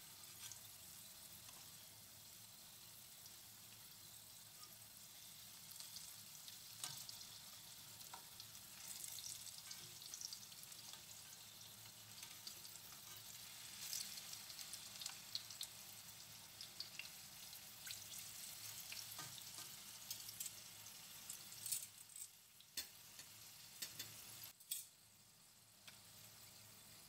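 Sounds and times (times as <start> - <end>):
pumpkin slices sizzling in oil: 0.0 - 27.0.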